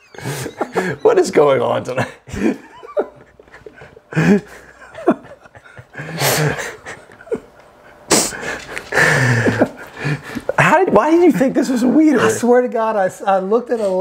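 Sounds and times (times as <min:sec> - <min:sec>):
men laughing: 0:00.0 - 0:12.4.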